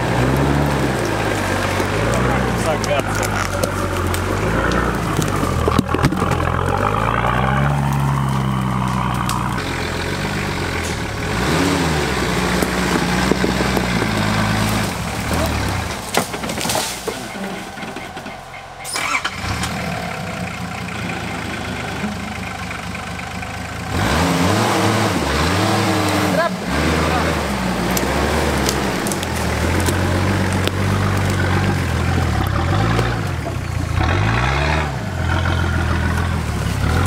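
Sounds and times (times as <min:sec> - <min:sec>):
off-road engine revving: 0:00.0 - 0:37.0.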